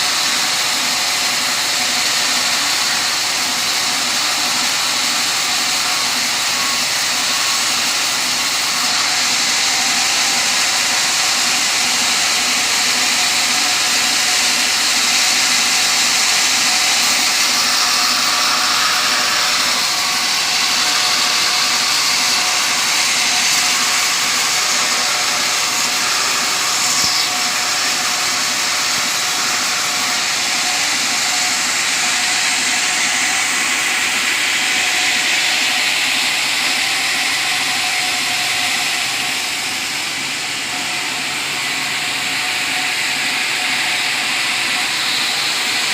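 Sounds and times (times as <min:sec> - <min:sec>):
sawmill sawing timber: 0:00.0 - 0:45.9.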